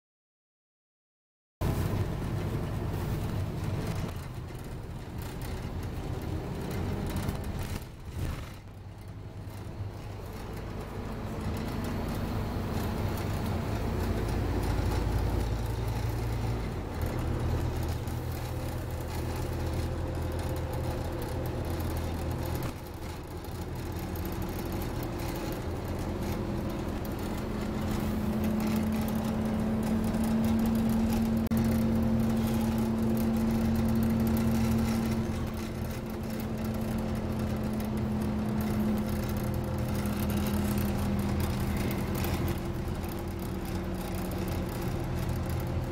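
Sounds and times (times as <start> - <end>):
bus engine running: 1.6 - 45.9
road noise: 1.6 - 45.9.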